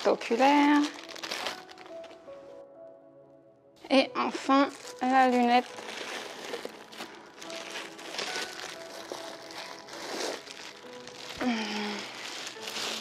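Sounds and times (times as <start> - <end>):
plastic wrapping crinkling: 0.0 - 2.6, 3.9 - 13.0
soft background music: 0.0 - 13.0.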